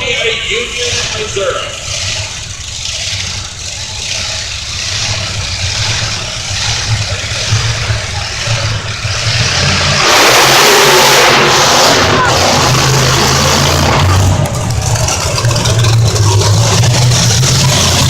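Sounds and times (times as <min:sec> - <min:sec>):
monster truck engine rumbling: 0:00.0 - 0:18.0.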